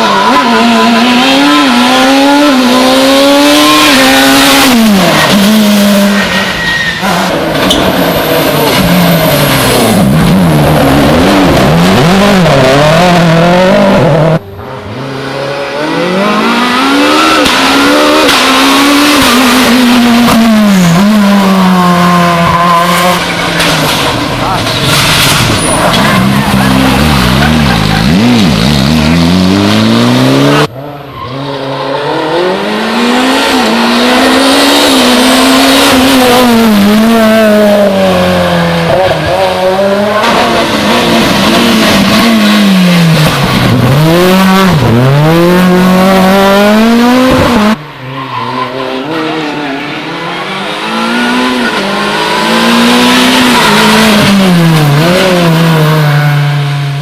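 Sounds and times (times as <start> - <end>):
rally car engines revving past: 0.0 - 57.0.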